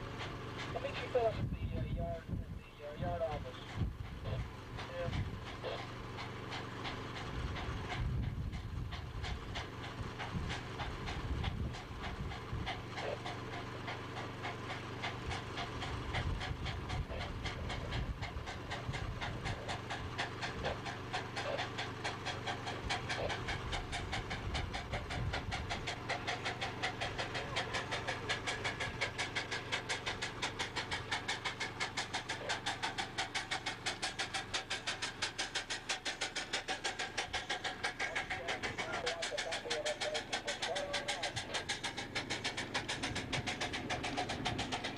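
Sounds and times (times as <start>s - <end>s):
steam locomotive chuffing: 0.0s - 44.9s.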